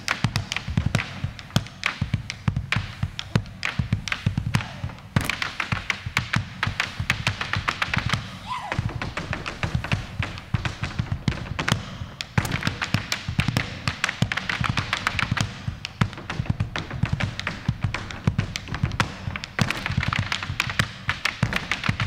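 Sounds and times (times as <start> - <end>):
boots stamping on stage floor: 0.0 - 22.0
music: 0.0 - 22.0.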